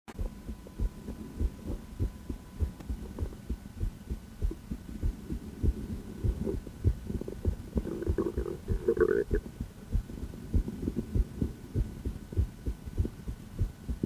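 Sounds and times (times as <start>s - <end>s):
faint steady hum: 0.1s - 14.0s
heartbeat thumps: 0.1s - 14.0s.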